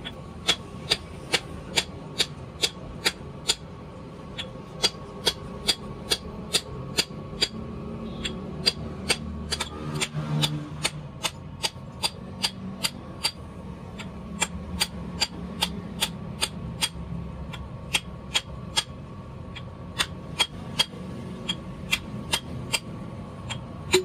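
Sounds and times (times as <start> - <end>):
hammer striking steel: 0.0 - 13.4, 14.0 - 17.0, 17.9 - 19.0, 20.0 - 22.9, 23.5 - 24.0.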